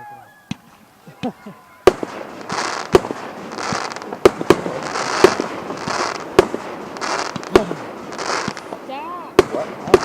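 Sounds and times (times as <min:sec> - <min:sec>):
fireworks bangs: 0:00.5 - 0:10.0
fireworks hissing and crackling: 0:00.5 - 0:10.0.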